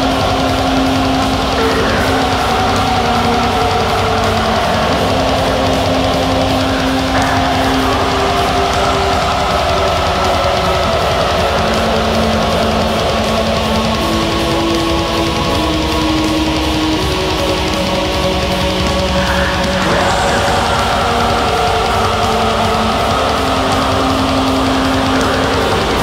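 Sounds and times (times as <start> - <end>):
distorted electric guitars: 0.0 - 26.0
fast steady drumming: 0.0 - 26.0.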